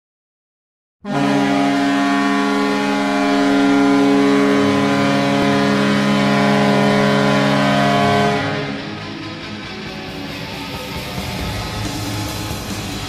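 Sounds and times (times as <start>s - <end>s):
goal horn blasting a chord: 1.0s - 11.6s.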